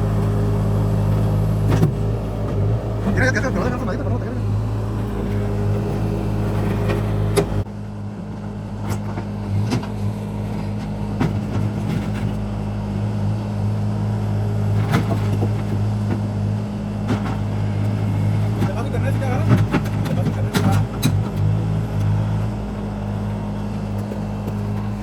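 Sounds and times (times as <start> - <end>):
engine droning: 0.0 - 25.0.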